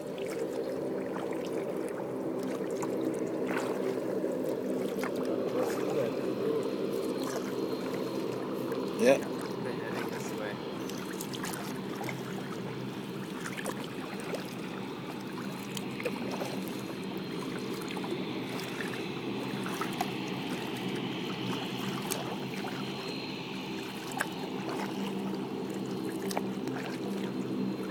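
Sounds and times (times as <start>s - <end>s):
little splashes: 0.0s - 27.9s
low hum: 0.0s - 27.9s
small waves lapping against hull: 0.0s - 27.9s.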